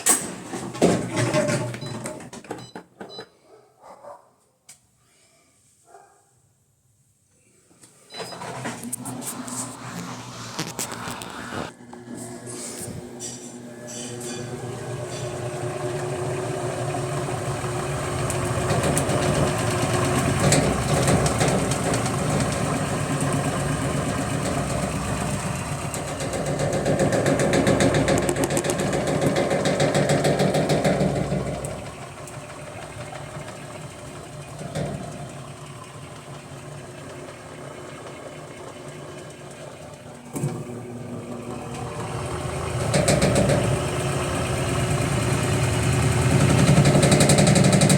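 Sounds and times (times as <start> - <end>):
washing machine mechanical noise: 0.0 - 3.3, 8.0 - 47.9.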